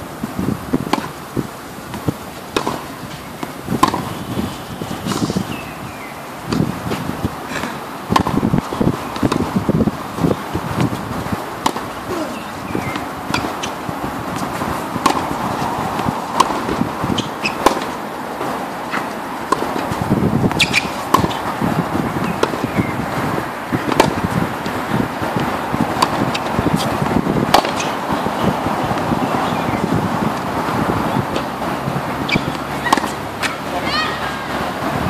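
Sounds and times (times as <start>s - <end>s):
wind rumble on microphone: 0.0s - 35.0s
racket striking tennis ball: 0.8s - 4.2s, 6.5s - 34.6s
tennis ball bouncing on hard court: 0.8s - 5.1s, 7.7s - 35.0s.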